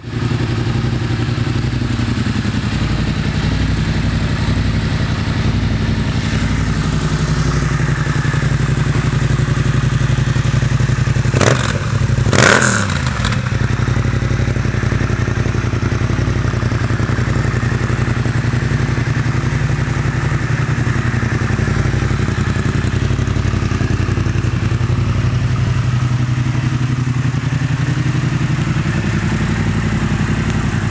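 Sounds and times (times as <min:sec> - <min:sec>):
motorcycle engine idling: 0:00.0 - 0:30.9.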